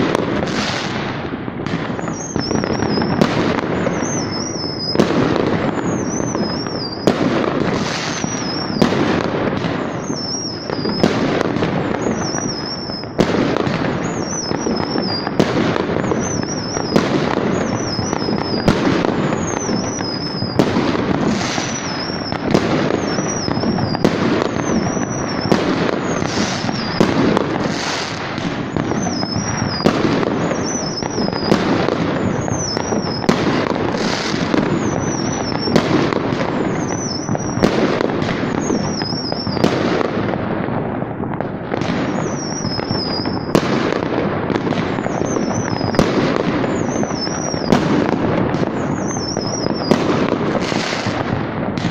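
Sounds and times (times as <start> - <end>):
fireworks crackling and rumbling: 0.0 - 51.9
sharp firework report: 0.0 - 51.9.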